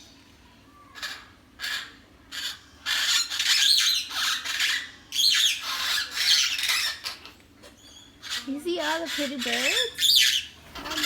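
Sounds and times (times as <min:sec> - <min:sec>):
parrots squawking: 0:00.9 - 0:07.3, 0:07.9 - 0:11.0.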